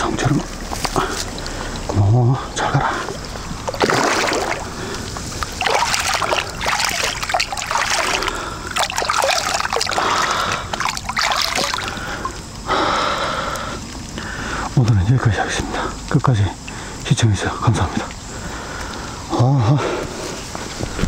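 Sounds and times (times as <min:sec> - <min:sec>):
water splashing and trickling: 0:00.0 - 0:19.5.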